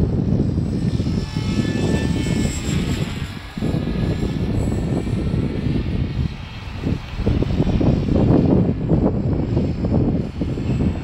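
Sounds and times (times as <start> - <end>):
rc helicopter motor whine: 0.0 - 11.0
wind buffeting microphone: 0.0 - 11.0.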